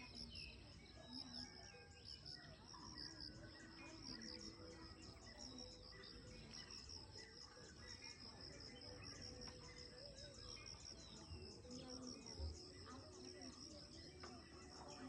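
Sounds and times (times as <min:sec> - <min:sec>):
insects chirping: 0:02.2 - 0:15.0.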